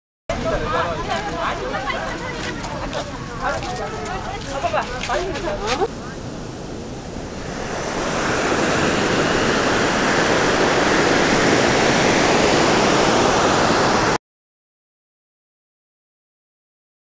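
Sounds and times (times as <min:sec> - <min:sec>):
waves washing up a beach: 0:00.4 - 0:14.2.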